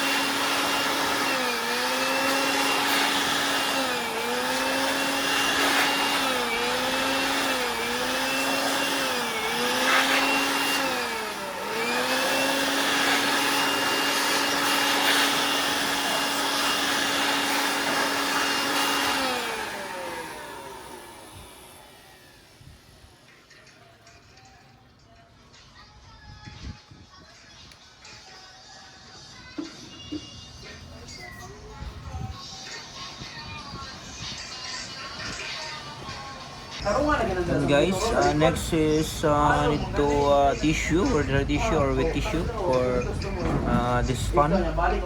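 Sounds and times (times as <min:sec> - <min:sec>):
electric dust blower motor hum: 0:00.0 - 0:23.7, 0:32.2 - 0:45.0.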